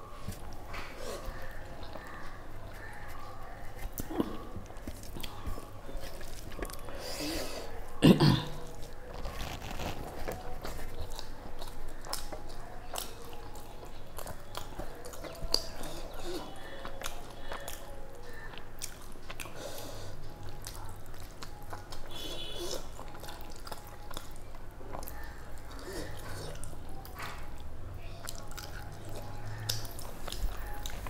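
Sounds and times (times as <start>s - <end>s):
person chewing and lip-smacking: 0.3s - 7.0s, 10.2s - 31.0s.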